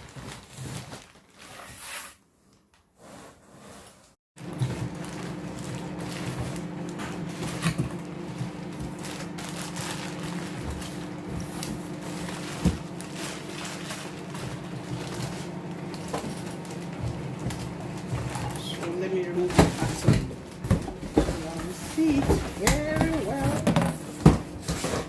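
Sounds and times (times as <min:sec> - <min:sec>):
low electrical appliance hum: 0:04.4 - 0:25.0.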